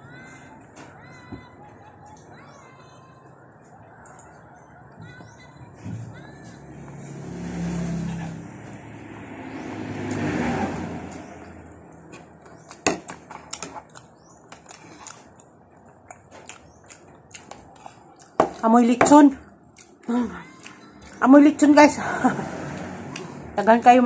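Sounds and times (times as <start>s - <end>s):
motor vehicles passing: 0.0s - 24.0s.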